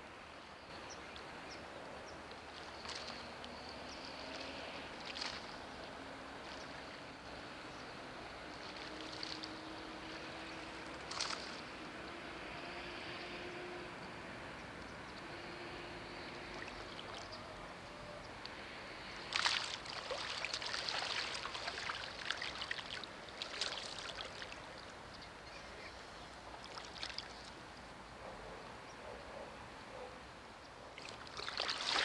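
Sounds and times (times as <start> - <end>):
trickling water splashes: 0.7 - 27.9, 31.0 - 32.0.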